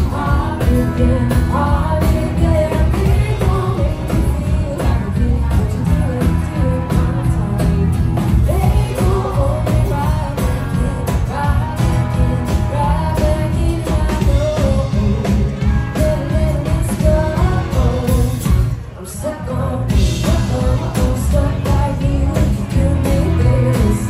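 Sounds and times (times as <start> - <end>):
live band music: 0.0 - 24.0
person singing: 0.0 - 24.0.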